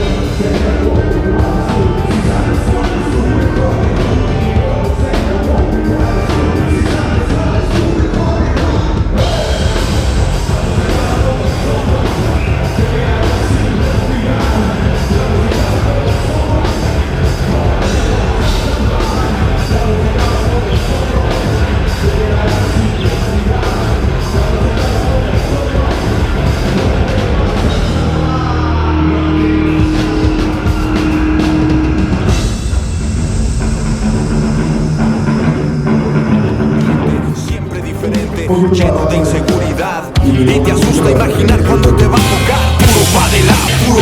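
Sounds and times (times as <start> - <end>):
drum kit beat: 0.0 - 44.0
rock band playing: 0.0 - 44.0.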